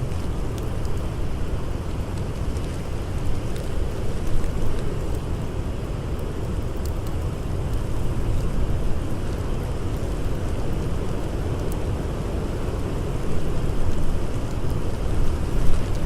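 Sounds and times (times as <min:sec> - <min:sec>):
blizzard wind blowing: 0:00.0 - 0:16.0
campfire crackling: 0:00.0 - 0:16.0.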